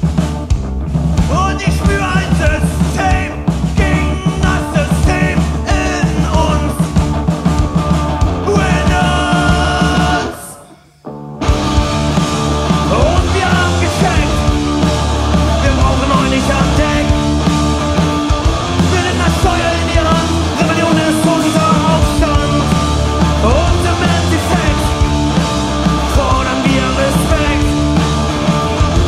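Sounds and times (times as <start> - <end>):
drum kit: 0.0 - 10.8, 11.4 - 29.0
distorted electric guitar: 0.0 - 29.0
electric bass: 0.0 - 29.0
person singing: 1.3 - 7.0, 8.1 - 11.0, 12.6 - 17.5, 18.6 - 29.0.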